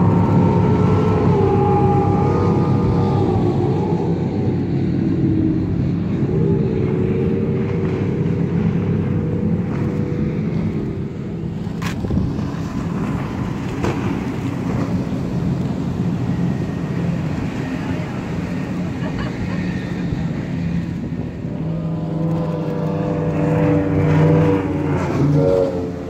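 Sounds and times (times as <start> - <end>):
powerboat engines droning: 0.0 - 26.0.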